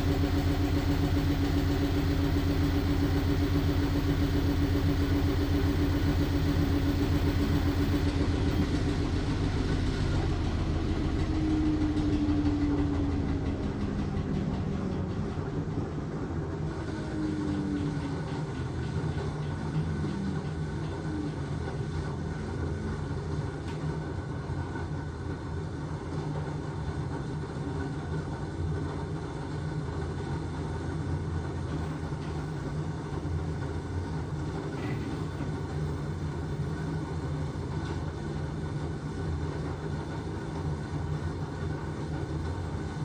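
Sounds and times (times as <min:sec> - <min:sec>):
washing machine hum: 0:00.0 - 0:27.7, 0:29.4 - 0:43.0.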